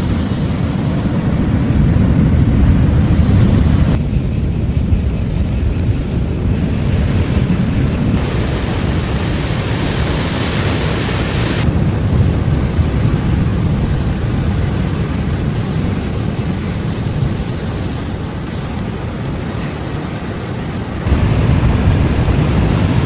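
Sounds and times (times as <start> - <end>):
ocean surf rushing on shore: 0.0 - 23.0
wind rumble on microphone: 0.0 - 23.0.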